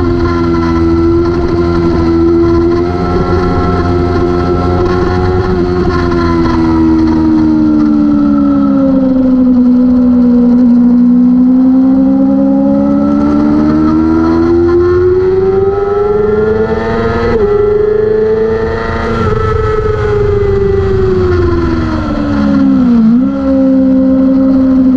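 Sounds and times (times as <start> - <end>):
motorcycle engine at high revs: 0.0 - 24.9.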